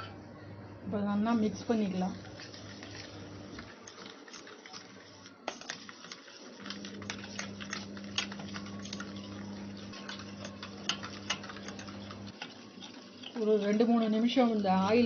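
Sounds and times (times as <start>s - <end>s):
wet mixing in bowl: 1.3s - 15.0s.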